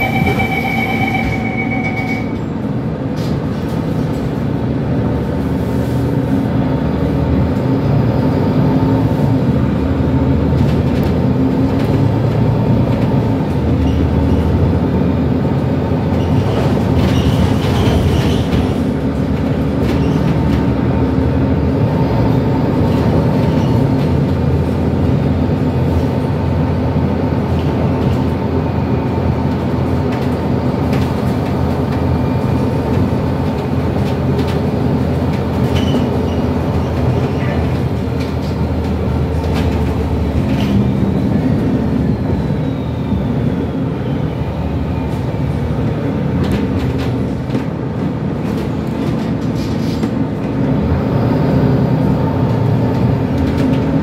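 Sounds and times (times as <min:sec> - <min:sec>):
bus diesel engine drone: 0:00.0 - 0:54.0
road noise: 0:00.0 - 0:54.0.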